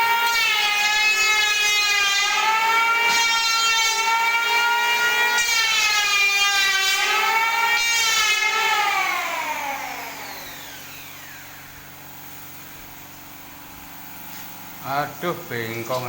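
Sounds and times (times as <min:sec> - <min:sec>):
power tool motor whining: 0:00.0 - 0:14.6.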